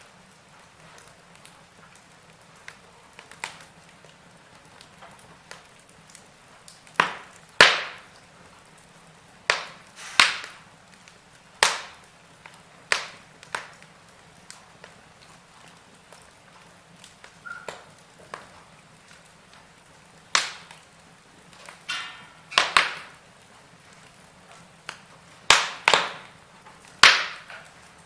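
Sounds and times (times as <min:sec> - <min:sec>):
wood fire crackling: 0:00.0 - 0:28.0
faint hiss: 0:05.3 - 0:28.0.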